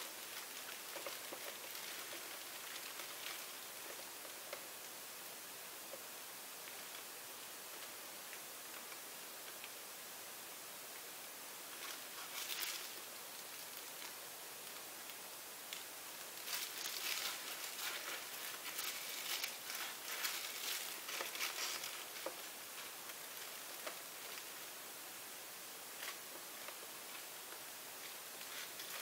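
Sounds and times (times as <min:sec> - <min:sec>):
plastic gloves rustling: 0:00.0 - 0:09.6, 0:11.6 - 0:29.0
faint steady hiss: 0:00.0 - 0:29.0.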